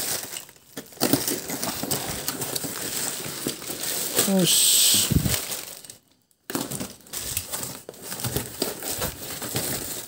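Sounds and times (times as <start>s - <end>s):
cardboard box crinkling: 0.0s - 10.0s
plastic wrapping crackling: 0.0s - 10.0s.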